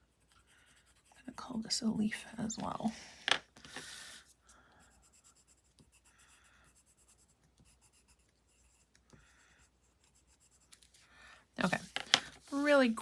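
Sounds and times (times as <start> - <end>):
pencil scratching on paper: 0.0 - 11.0, 11.6 - 13.0.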